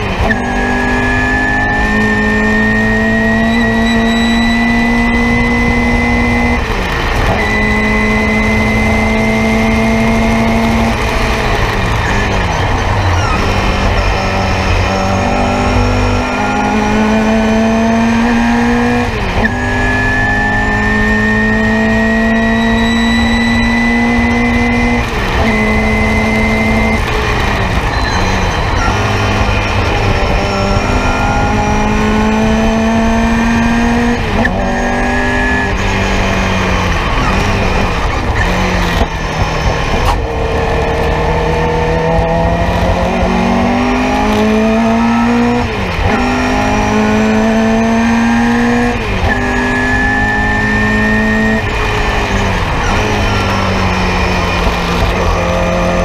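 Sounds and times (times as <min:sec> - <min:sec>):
race car engine through gear changes: 0:00.0 - 0:56.0.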